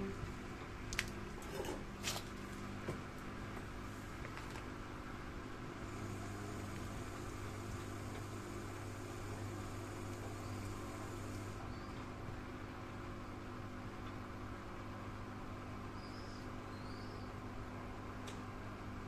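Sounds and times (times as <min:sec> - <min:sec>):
washing machine spinning hum: 0:00.0 - 0:19.0.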